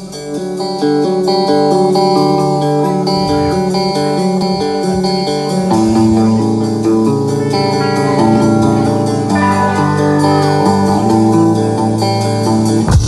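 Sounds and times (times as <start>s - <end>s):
bass guitar: 0.0s - 13.0s
electric guitars: 0.0s - 13.0s
steady drum beat: 1.6s - 13.0s.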